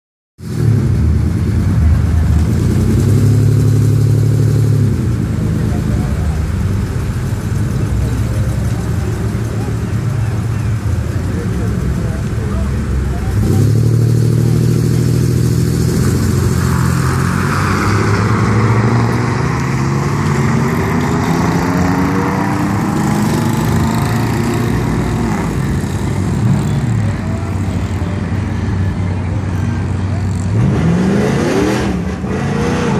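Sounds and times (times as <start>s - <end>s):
truck engines revving hard: 0.4s - 32.9s
steady engine drone: 0.5s - 32.9s.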